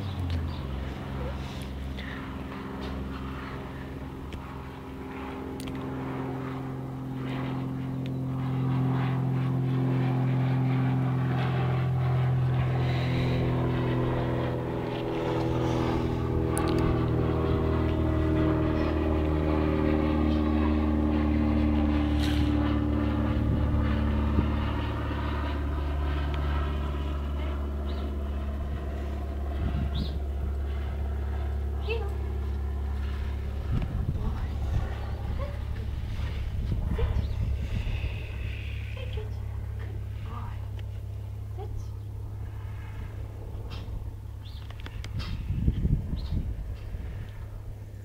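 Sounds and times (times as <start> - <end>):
engine drone: 0.0 - 48.0.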